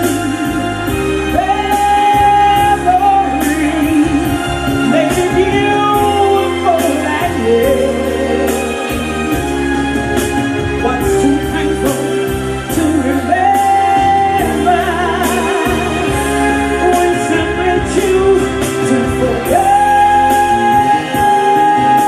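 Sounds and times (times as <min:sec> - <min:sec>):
live band music: 0:00.0 - 0:22.0
melody line with vibrato: 0:00.0 - 0:22.0
steady drum beat: 0:00.0 - 0:22.0.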